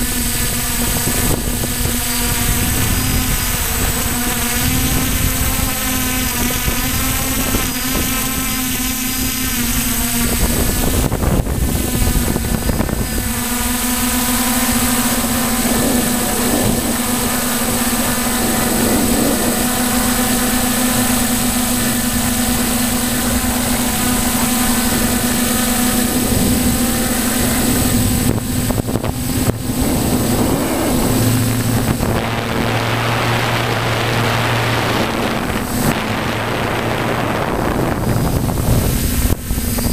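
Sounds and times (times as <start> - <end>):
drone motors whining: 0.0 - 39.9
wind noise on microphone: 0.0 - 39.9.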